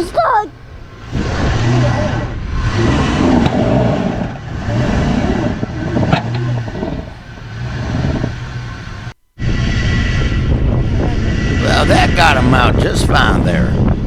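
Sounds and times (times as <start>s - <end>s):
off-road vehicle engines revving: 0.0s - 14.0s.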